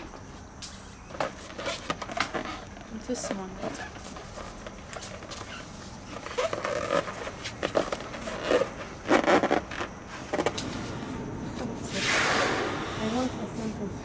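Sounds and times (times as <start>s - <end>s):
balloons scraping and rustling: 1.1s - 13.3s.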